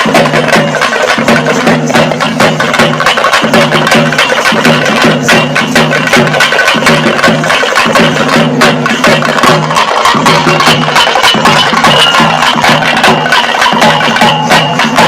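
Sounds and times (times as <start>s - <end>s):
fast sharp drum strikes: 0.0s - 15.0s
percussion-led music: 0.0s - 15.0s.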